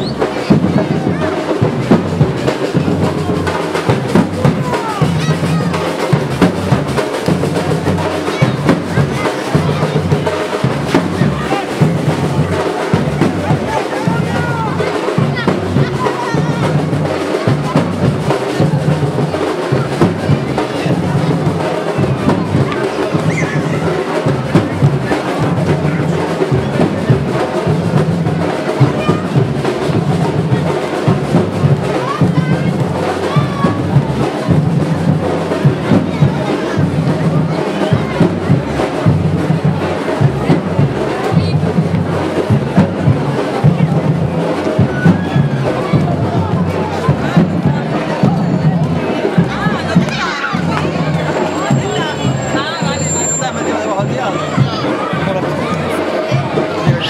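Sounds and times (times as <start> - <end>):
drum-driven music: 0.0 - 57.0
voices over music: 0.0 - 57.0.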